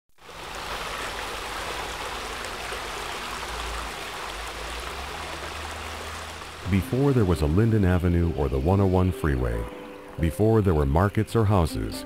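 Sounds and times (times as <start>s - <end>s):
water running over rocks: 0.2s - 10.1s.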